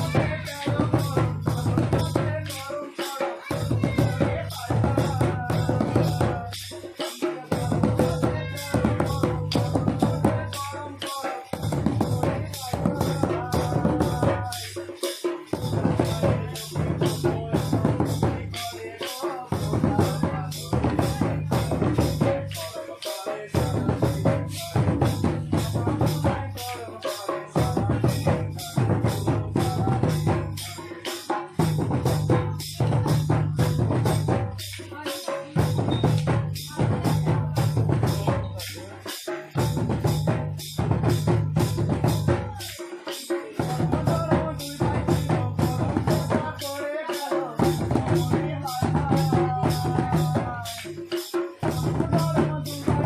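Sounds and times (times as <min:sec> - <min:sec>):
barrel drum: 0:00.0 - 0:53.0
tall drum beaten with stick: 0:00.0 - 0:53.0.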